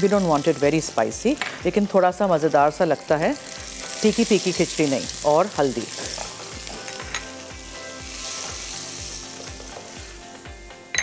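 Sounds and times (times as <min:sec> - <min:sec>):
spices sizzling in a wok: 0:00.0 - 0:11.0.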